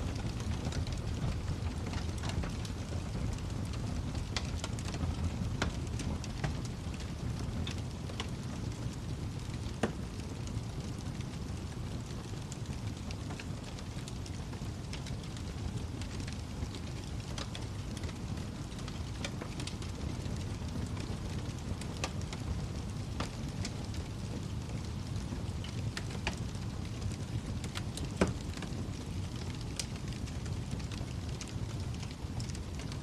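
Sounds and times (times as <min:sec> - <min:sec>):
wood fire crackling in fireplace: 0:00.0 - 0:33.0.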